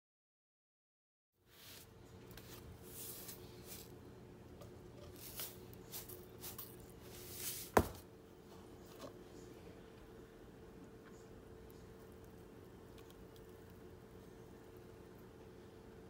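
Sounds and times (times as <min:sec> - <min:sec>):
faint hum: 0:01.4 - 0:16.0.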